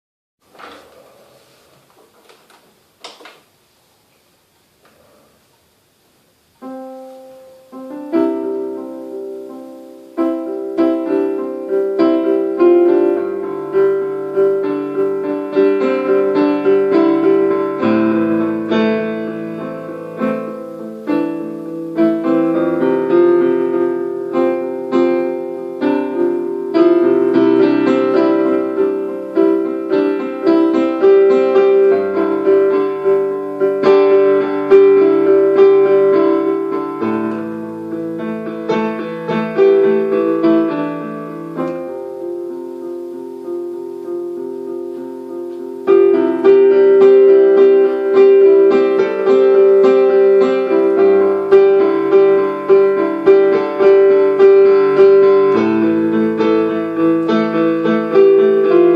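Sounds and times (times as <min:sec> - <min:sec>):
solo piano: 0:04.8 - 0:58.9.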